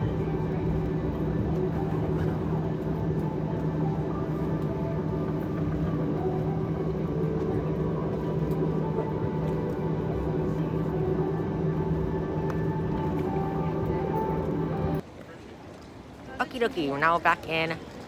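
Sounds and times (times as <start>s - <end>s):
droning tones: 0.0s - 15.0s
jet engine hum and rumble: 0.0s - 15.0s.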